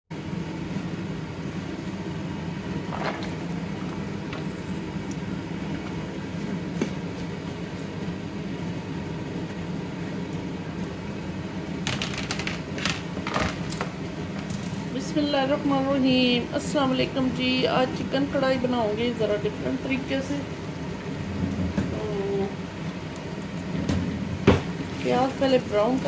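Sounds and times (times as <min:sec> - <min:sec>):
low mechanical hum: 0:00.1 - 0:26.0.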